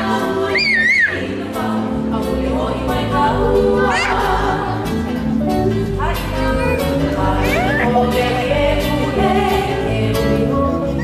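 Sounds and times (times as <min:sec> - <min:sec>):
person singing: 0:00.0 - 0:05.1, 0:06.0 - 0:11.0
guitar accompaniment: 0:00.0 - 0:11.0.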